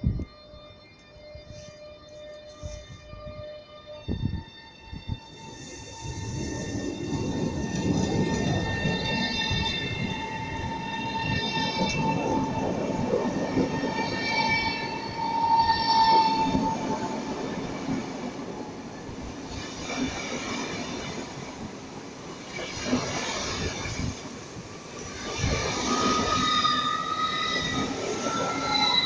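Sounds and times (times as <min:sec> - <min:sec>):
electric train rolling past: 0:00.0 - 0:29.0.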